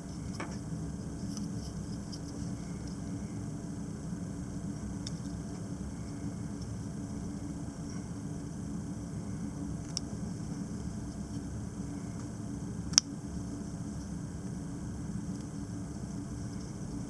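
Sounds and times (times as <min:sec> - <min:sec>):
steady low room hum: 0:00.0 - 0:17.0.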